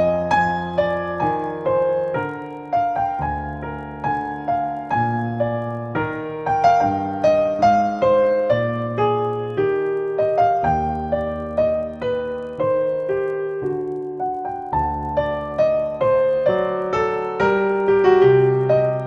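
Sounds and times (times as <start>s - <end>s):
held piano bass notes: 0.0s - 19.0s
slow piano melody: 0.0s - 19.0s.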